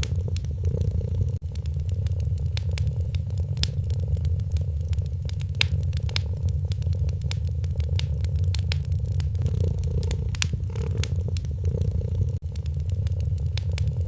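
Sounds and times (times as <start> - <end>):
cat purring: 0.0 - 14.0
wood fire crackling and popping: 0.0 - 14.0.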